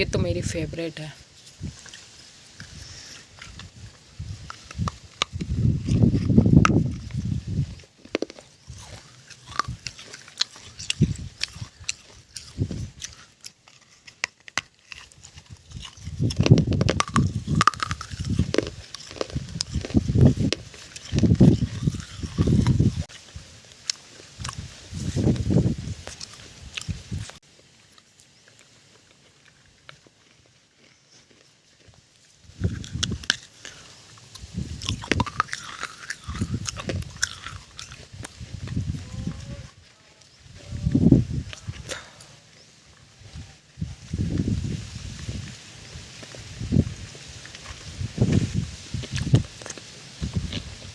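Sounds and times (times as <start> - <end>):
crunchy biting and chewing: 1.3 - 50.9.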